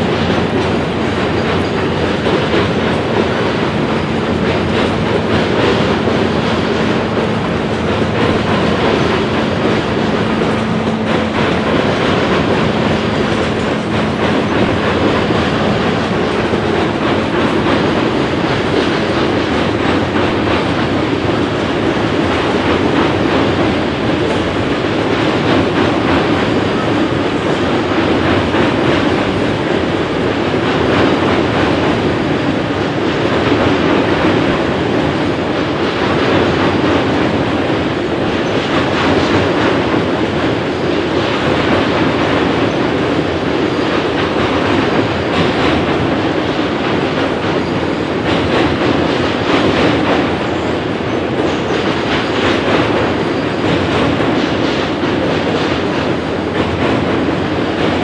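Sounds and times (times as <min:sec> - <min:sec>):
train wheels rumbling on rail: 0:00.0 - 0:58.0
wheel clacks: 0:00.0 - 0:58.0.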